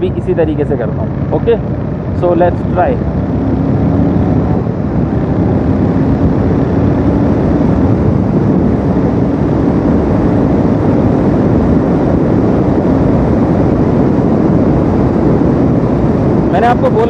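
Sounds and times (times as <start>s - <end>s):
motorcycle engine running hard: 0.0s - 17.0s
wind and road noise: 0.0s - 17.0s.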